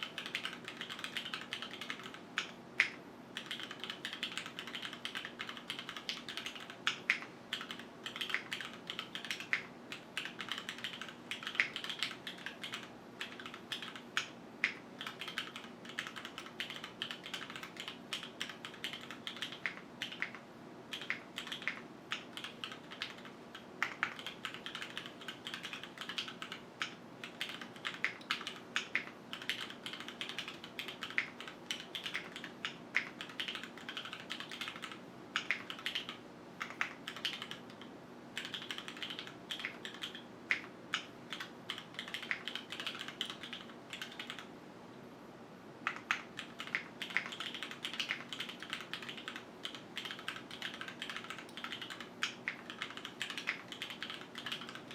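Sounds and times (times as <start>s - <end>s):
mechanical keyboard typing: 0.0s - 44.5s, 45.8s - 54.9s.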